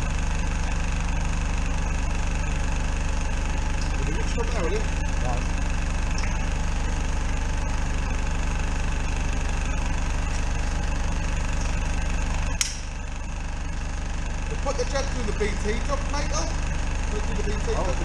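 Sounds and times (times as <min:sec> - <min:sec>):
engine and pump throbbing: 0:00.0 - 0:18.0.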